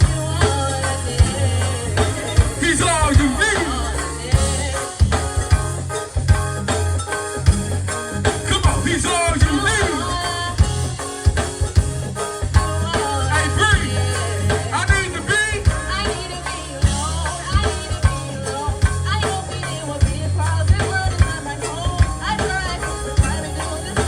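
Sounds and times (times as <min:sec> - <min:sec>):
drum kit beat: 0:00.0 - 0:24.0
gospel band playing: 0:00.0 - 0:24.0
heavy sustained bass: 0:00.0 - 0:24.0
wavering melody line: 0:00.0 - 0:24.0.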